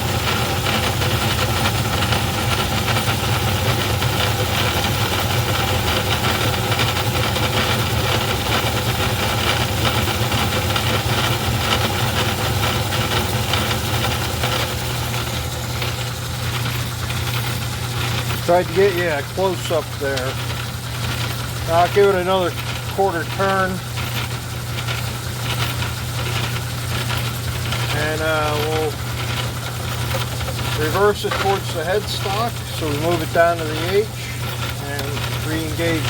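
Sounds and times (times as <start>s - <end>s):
metal lathe cutting: 0.0s - 36.0s.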